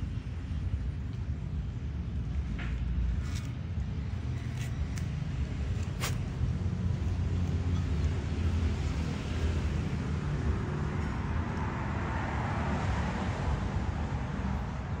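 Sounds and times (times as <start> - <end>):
outdoor background rumble and hiss: 0.0 - 15.0.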